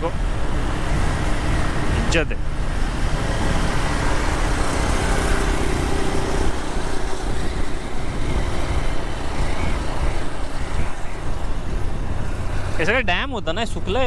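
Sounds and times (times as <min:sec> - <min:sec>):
wind buffeting microphone: 0:00.2 - 0:14.0.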